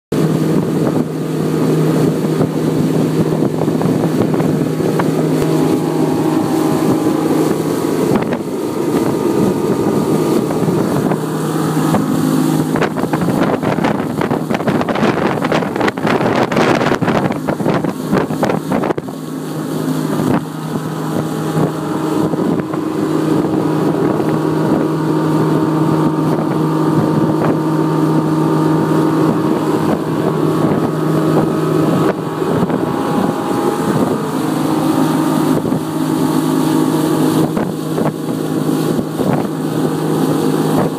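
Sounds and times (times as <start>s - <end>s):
outboard motor running: 0.1s - 40.9s
wind noise on microphone: 0.2s - 40.9s.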